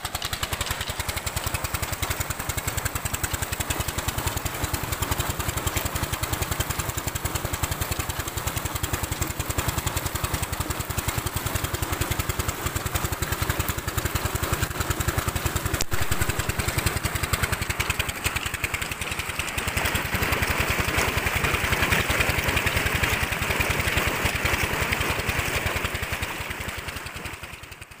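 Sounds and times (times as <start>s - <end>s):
diesel engine running: 0.0s - 28.0s
water gushing from outlet: 0.0s - 28.0s.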